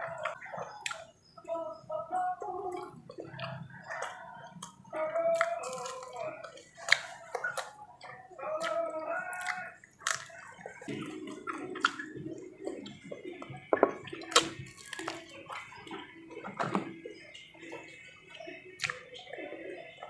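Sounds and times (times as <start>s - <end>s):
person chewing and smacking: 0.0s - 1.4s, 2.4s - 20.0s.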